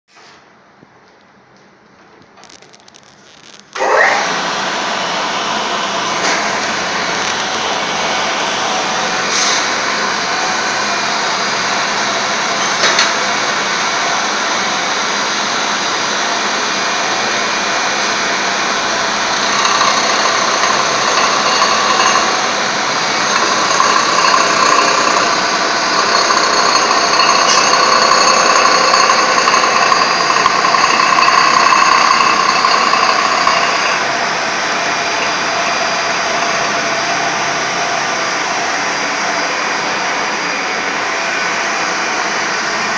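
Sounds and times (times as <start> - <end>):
loud grinding whine: 2.4 - 42.9
stone grinding machine running: 3.8 - 40.1.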